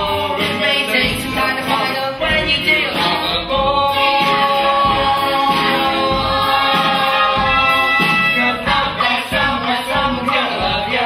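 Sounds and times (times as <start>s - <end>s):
chorus singing show tune: 0.0s - 11.0s.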